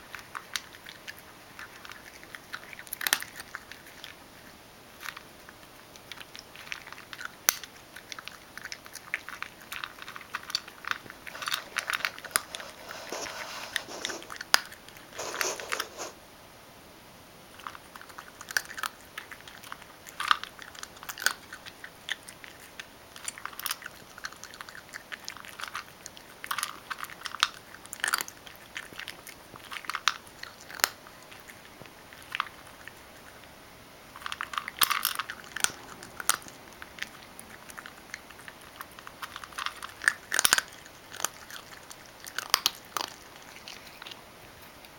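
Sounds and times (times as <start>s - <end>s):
cat crunching dry kibble: 0.0s - 16.2s, 17.5s - 44.9s.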